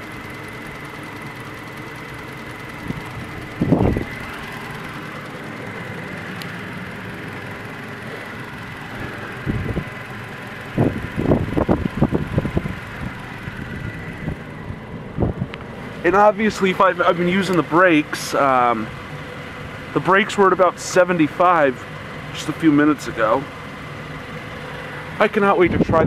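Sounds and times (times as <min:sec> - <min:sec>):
pickup engine idling: 0:00.0 - 0:26.0.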